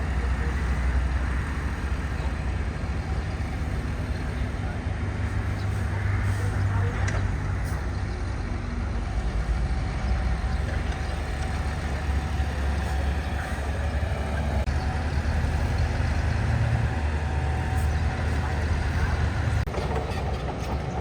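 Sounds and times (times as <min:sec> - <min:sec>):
diesel engine of heavy machine: 0:00.0 - 0:21.0.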